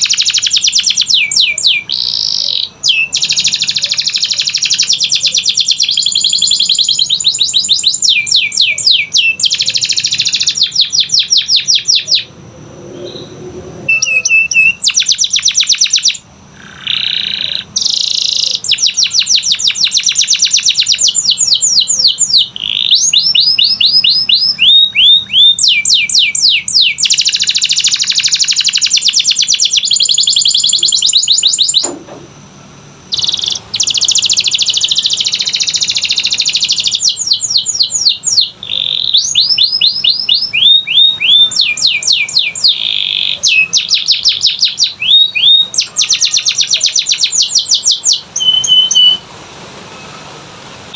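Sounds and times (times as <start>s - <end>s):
canary singing trills: 0.0s - 32.0s, 33.1s - 50.9s.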